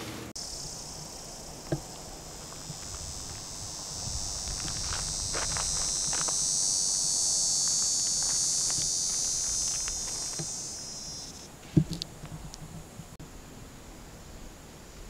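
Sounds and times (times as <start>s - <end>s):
cicadas shrill drone: 0.4s - 15.0s.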